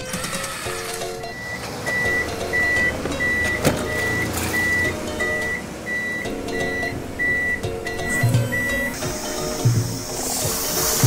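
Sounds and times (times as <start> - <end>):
forklift warning alarm beeping: 0.0 - 9.9.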